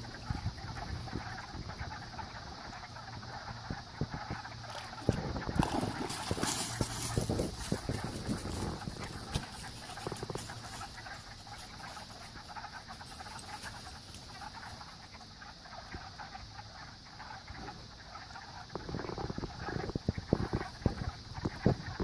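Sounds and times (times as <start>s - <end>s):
chorus of frogs: 0.0s - 22.0s.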